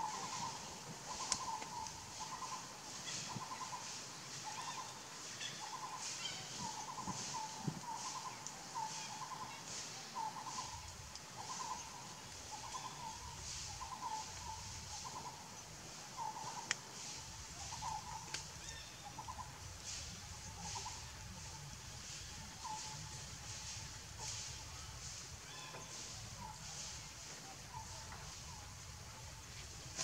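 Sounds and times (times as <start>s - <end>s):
faint rhythmic hiss: 0.0s - 30.0s.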